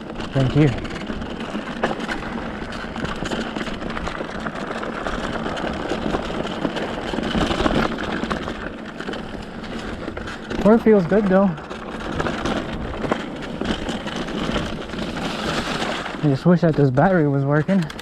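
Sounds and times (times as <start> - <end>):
bike clicks and rattles: 0.0 - 18.0
bike tyres rolling on dirt: 0.0 - 18.0.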